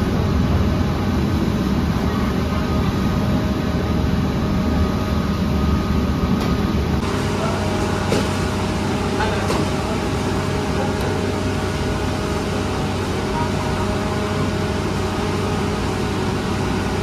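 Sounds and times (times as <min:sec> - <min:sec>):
machinery rumble and hum: 0:00.0 - 0:17.0.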